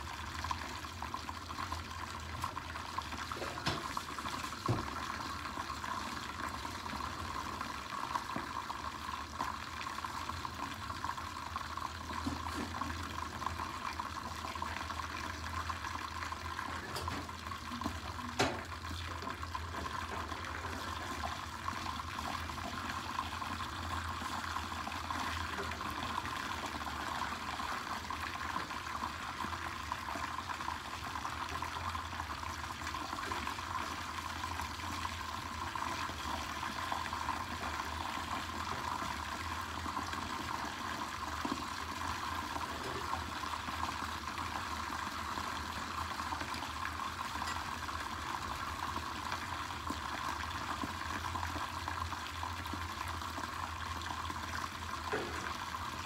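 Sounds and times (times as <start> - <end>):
low stove hum: 0.0 - 56.0
pots boiling with watery hiss: 0.0 - 56.0.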